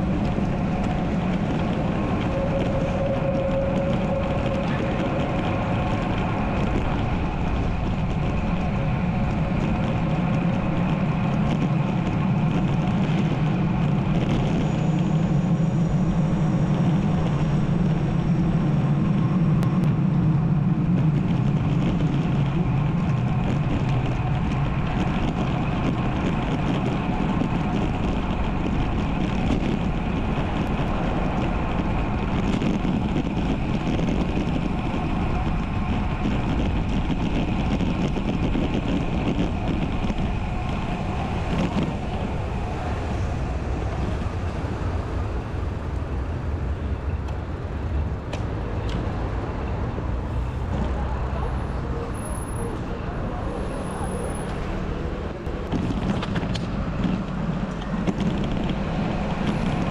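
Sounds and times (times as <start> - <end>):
bike tyre noise: 0.0 - 59.9
wind rushing: 0.0 - 59.9.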